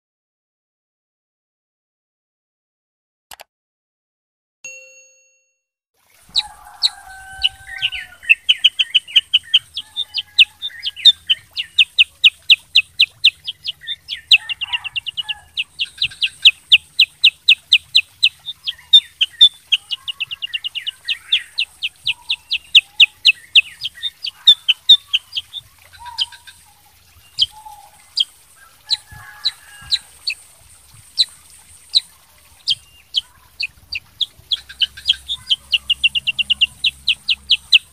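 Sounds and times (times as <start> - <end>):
bird chirping and warbling: 6.3 - 37.9.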